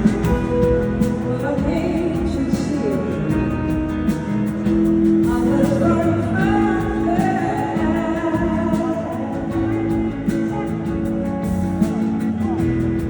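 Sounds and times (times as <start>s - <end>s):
person singing: 0.0s - 12.7s
live band playing soul ballad: 0.0s - 13.0s.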